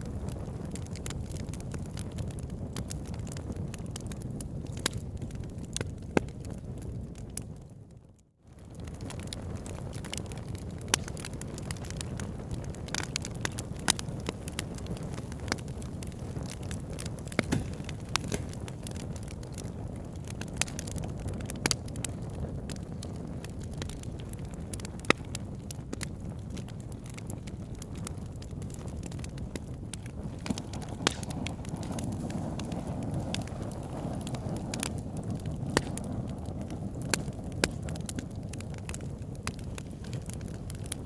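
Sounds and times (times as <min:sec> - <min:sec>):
wood fire rushing: 0:00.0 - 0:06.8, 0:08.6 - 0:41.0
fire crackles and pops: 0:00.0 - 0:41.0.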